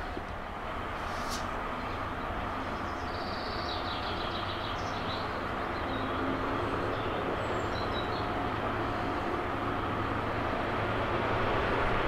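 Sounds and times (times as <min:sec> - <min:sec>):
distant locomotive running: 0:00.0 - 0:12.0.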